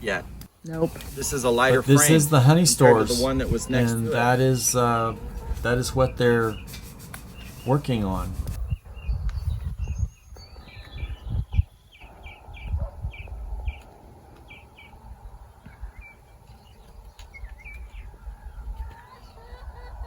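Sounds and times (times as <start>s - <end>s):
bird chirping: 0.8s - 20.0s.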